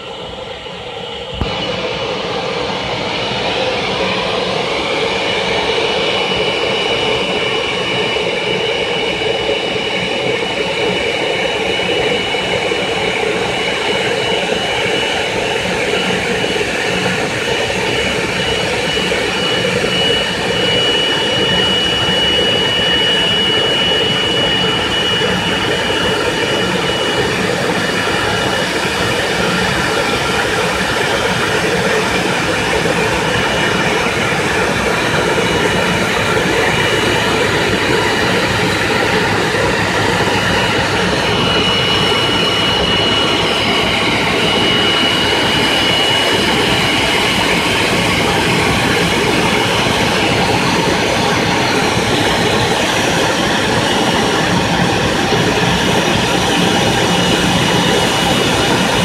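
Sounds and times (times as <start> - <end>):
jet engines idling: 0.0 - 59.0.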